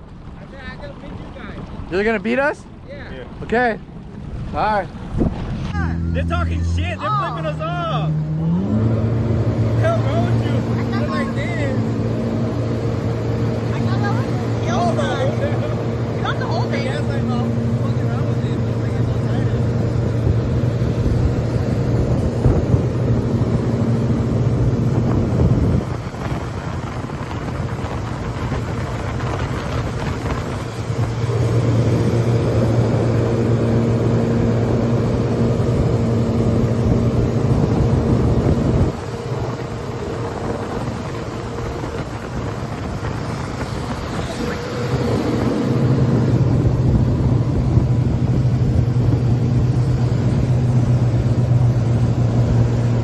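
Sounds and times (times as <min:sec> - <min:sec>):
boat engine running: 0:00.0 - 0:53.0
wind on microphone: 0:04.2 - 0:06.8, 0:08.2 - 0:53.0.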